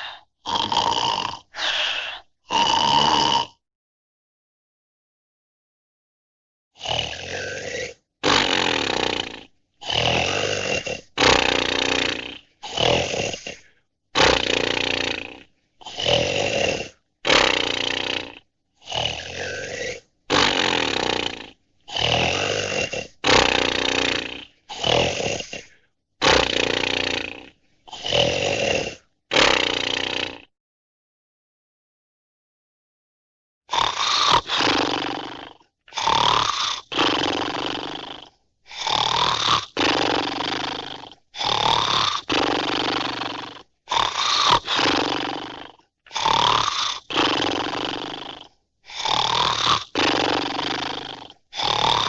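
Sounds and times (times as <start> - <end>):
loud snoring: 0.0 - 3.6, 6.8 - 30.6, 33.7 - 52.0.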